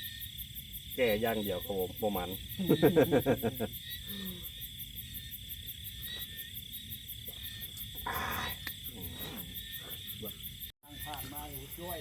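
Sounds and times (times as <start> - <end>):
crickets chirping: 0.0 - 12.0
high insect drone: 0.0 - 12.0.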